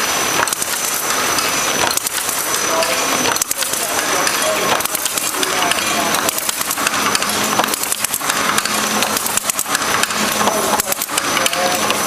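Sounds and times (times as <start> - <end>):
machine hum: 0.0 - 12.0
clatter of clicks and rattles: 0.4 - 2.6, 3.3 - 12.0.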